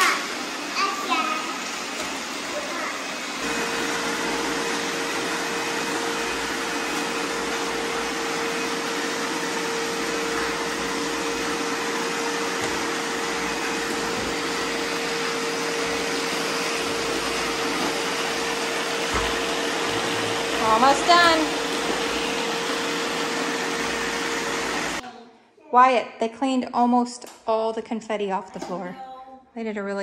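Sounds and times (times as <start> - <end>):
robot vacuums whirring: 0.0 - 25.0.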